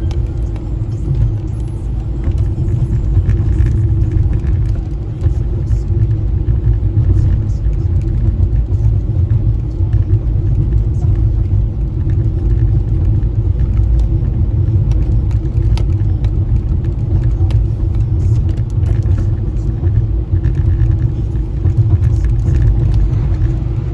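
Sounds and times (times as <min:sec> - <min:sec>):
car road and engine rumble: 0:00.0 - 0:23.9.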